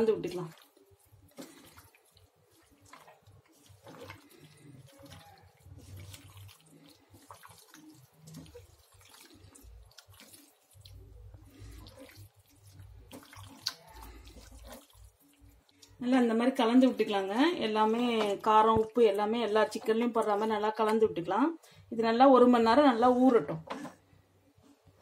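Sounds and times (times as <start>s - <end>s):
wet squelching of marinade: 0.0s - 21.2s.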